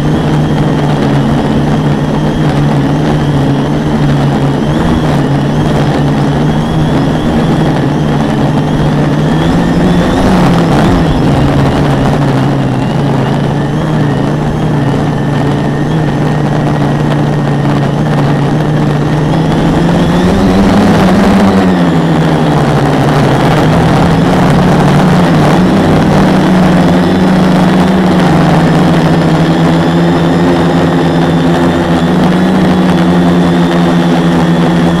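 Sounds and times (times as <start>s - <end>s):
quadcopter motors droning: 0.0s - 35.0s
rush of air: 0.0s - 35.0s.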